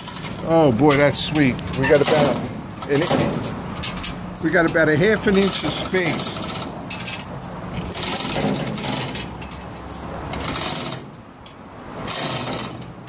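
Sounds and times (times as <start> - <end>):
wood scraping on steel grate: 0.0 - 11.3, 11.9 - 13.0.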